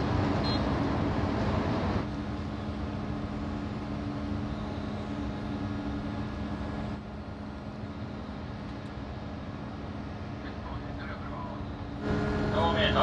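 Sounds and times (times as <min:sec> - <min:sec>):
ferry machinery humming: 0:00.0 - 0:13.0.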